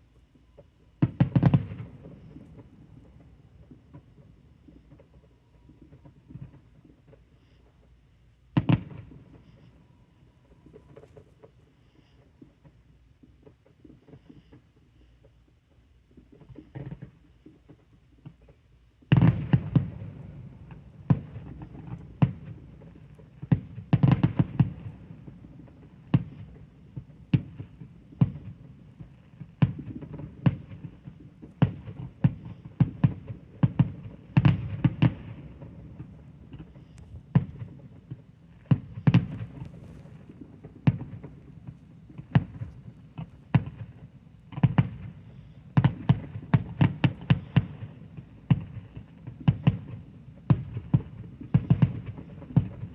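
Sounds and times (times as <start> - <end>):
fireworks crackling: 0.0 - 15.3, 16.1 - 52.9
fireworks bangs: 0.5 - 7.8, 8.4 - 14.6, 16.1 - 52.9.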